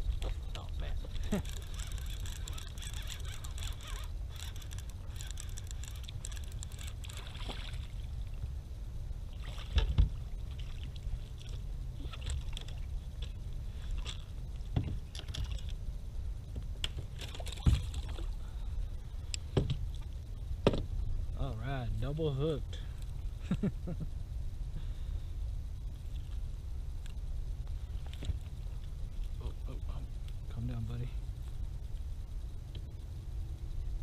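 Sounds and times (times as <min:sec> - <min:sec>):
low rumble: 0:00.0 - 0:34.0.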